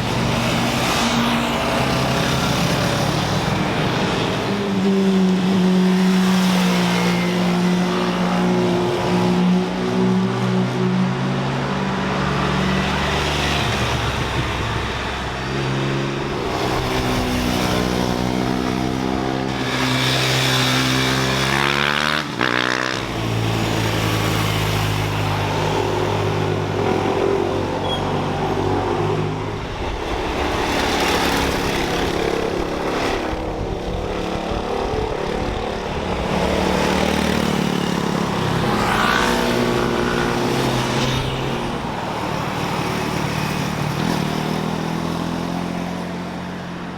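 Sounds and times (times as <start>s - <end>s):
motorcycles and cars revving past: 0.0s - 46.9s.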